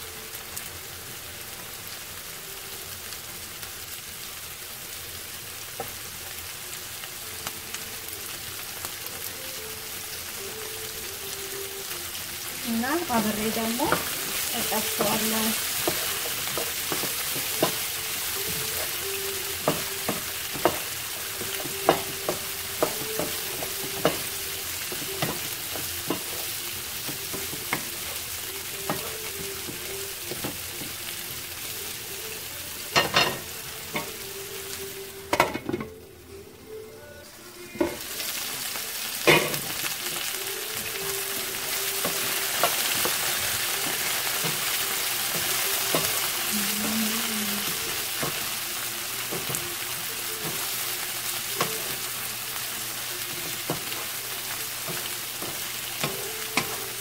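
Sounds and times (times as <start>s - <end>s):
vegetables sizzling in oil: 0.0s - 36.8s, 37.5s - 57.0s.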